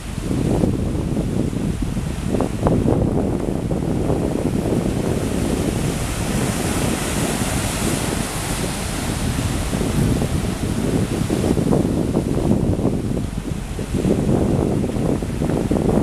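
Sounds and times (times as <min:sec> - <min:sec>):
sea waves: 0:00.0 - 0:16.0
wind rumbling on microphone: 0:00.0 - 0:16.0.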